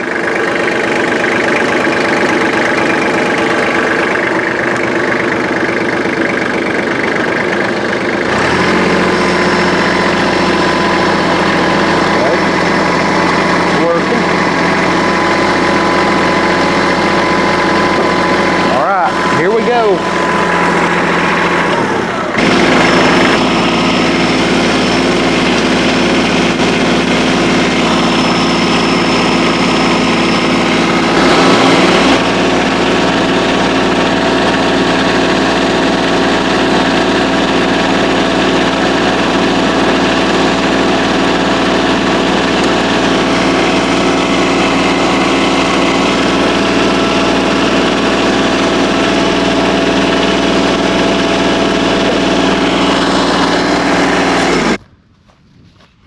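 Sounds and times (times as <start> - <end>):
tractor engine running under load: 0.0 - 54.8.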